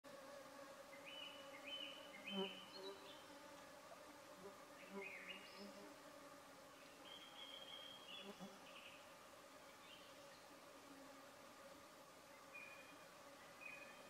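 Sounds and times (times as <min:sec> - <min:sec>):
faint insect buzz: 0:00.1 - 0:14.0.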